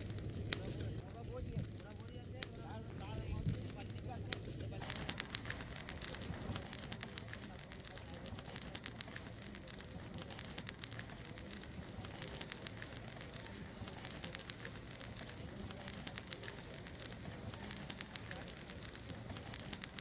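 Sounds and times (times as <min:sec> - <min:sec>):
hiss of burning: 0:00.0 - 0:20.0
wood bonfire crackling: 0:00.0 - 0:20.0.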